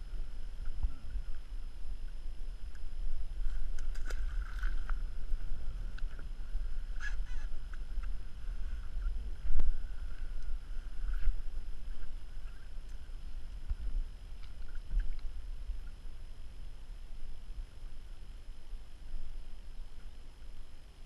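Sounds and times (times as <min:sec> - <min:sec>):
wind on microphone: 0:00.0 - 0:19.7.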